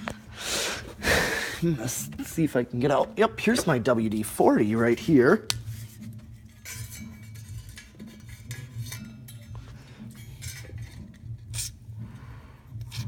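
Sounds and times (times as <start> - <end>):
desk fan motor humming: 0.0 - 13.0.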